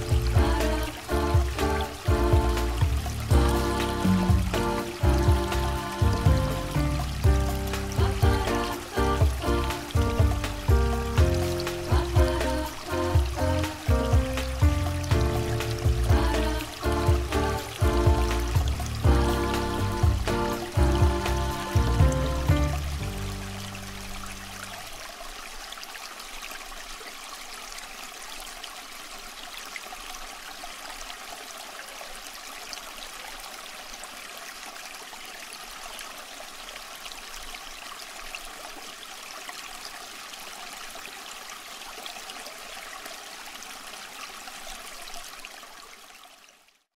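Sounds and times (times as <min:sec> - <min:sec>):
aquarium water trickling: 0:00.0 - 0:46.8.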